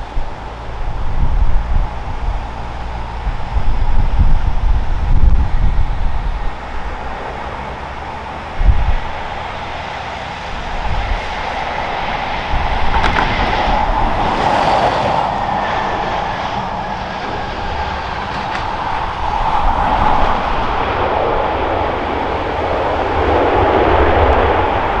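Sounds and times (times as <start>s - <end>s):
jet engines rushing: 0.0s - 25.0s
wind thumping on microphone: 0.0s - 25.0s.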